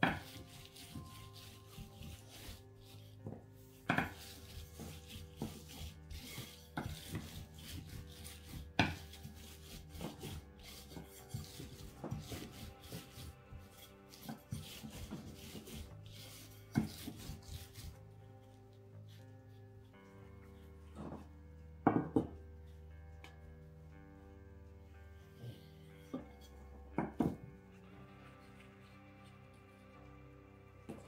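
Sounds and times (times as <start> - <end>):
soft background music: 0.0 - 31.0.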